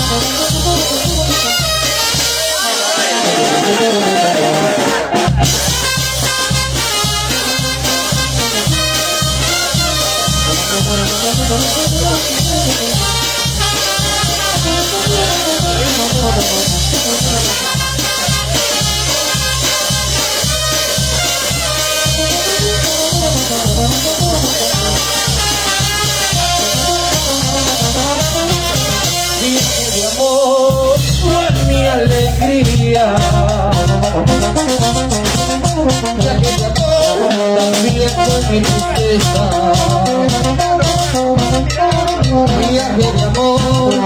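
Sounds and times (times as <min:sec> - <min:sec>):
steady drum beat: 0:00.0 - 0:44.0
wind instrument melody: 0:00.0 - 0:44.0.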